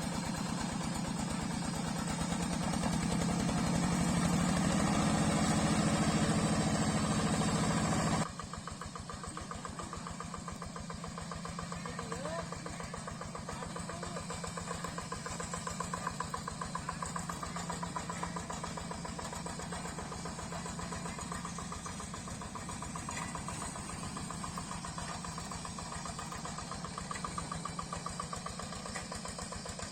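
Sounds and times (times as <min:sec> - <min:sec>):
diesel engine chugging: 0:00.0 - 0:29.9.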